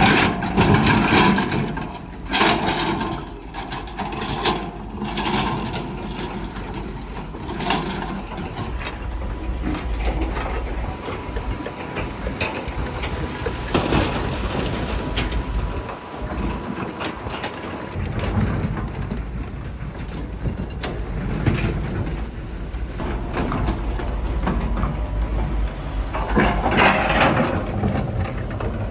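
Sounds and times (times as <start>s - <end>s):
diesel engine rumbling: 0.0s - 28.9s
knocks and clanks: 0.0s - 28.9s.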